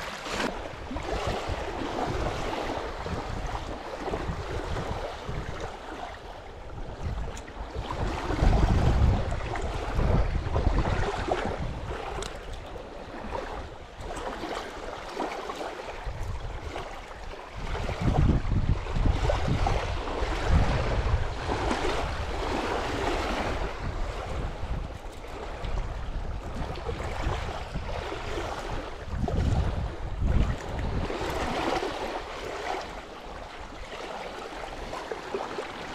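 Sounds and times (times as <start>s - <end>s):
wind and water hiss at shoreline: 0.0s - 35.9s
wind buffeting microphone: 0.0s - 35.9s.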